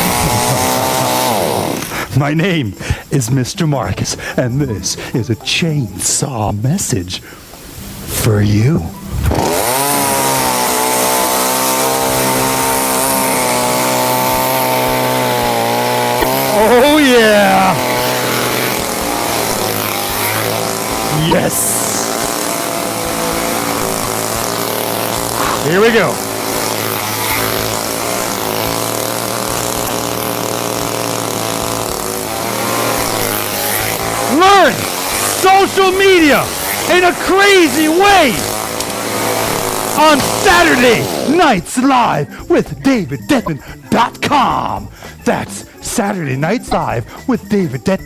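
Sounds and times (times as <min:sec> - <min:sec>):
chainsaw running: 0:00.0 - 0:03.3, 0:09.1 - 0:48.0.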